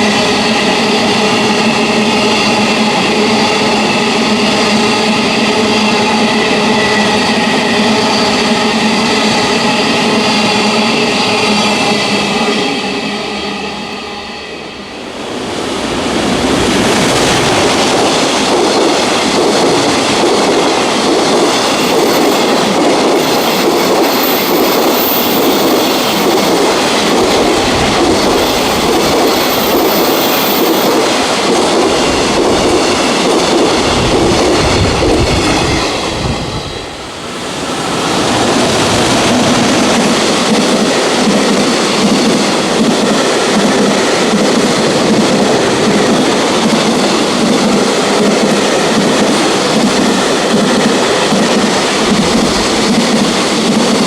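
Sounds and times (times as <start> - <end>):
electric locomotive drone: 0.0 - 54.0
train wheels rumbling on rails: 0.0 - 54.0.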